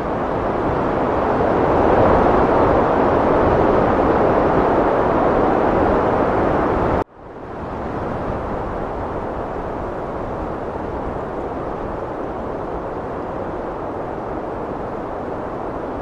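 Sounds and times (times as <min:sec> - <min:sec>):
heavy wind blowing: 0:00.0 - 0:16.0.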